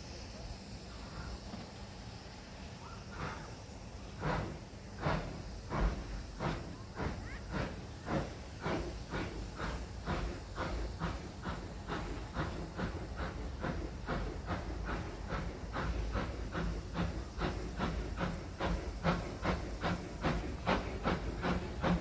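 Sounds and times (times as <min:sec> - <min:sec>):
steam locomotive exhaust beats: 0:00.0 - 0:22.0.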